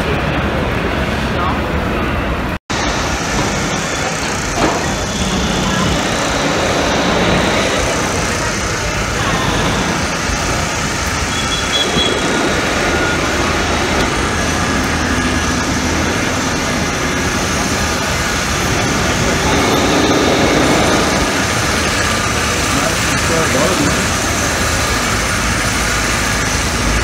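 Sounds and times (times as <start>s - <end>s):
road noise: 0.0s - 27.0s
passing vehicle engines: 2.8s - 27.0s.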